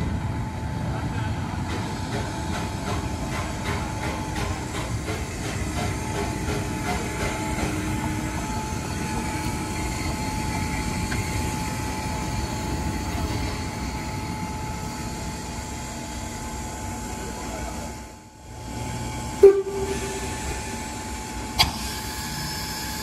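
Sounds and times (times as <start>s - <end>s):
steam locomotive rumbling: 0.0s - 23.0s.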